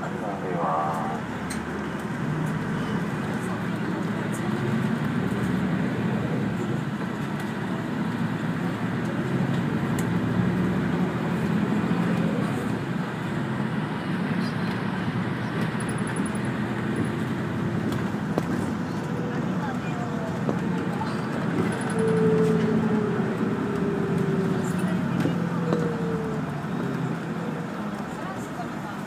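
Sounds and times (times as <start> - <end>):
bus engine low hum: 0.0 - 29.0
road noise: 0.0 - 29.0.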